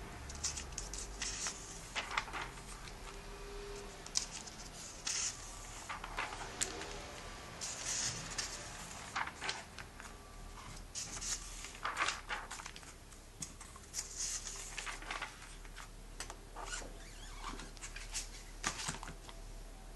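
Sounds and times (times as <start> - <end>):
pages being turned: 0.3 - 19.4.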